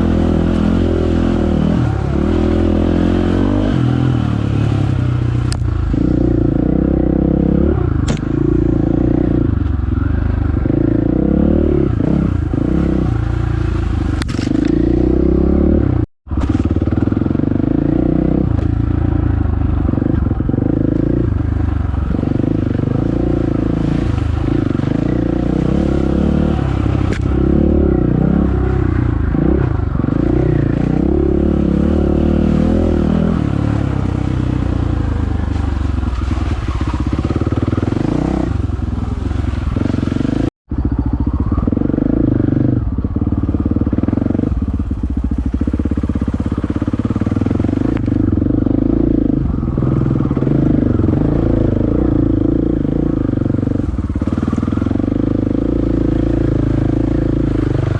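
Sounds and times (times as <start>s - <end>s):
dirt bike engine: 0.0s - 57.9s.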